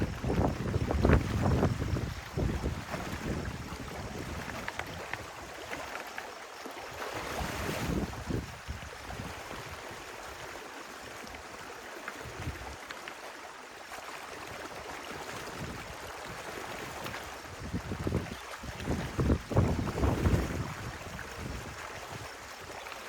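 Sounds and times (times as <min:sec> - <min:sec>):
stream rushing and gurgling: 0:00.0 - 0:23.0.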